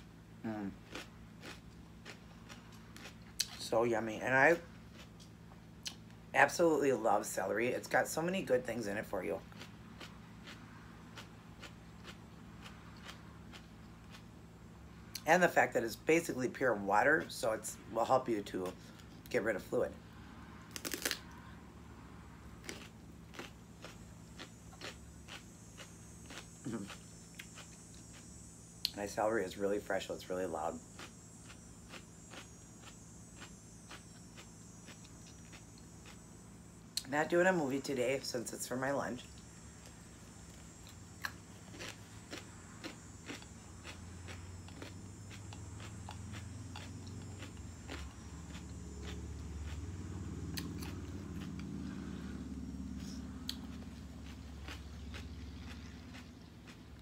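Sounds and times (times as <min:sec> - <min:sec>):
loud celery crunching: 0:00.4 - 0:14.3, 0:20.7 - 0:21.4, 0:22.5 - 0:29.2, 0:30.4 - 0:36.2, 0:37.0 - 0:52.3, 0:53.3 - 0:57.0.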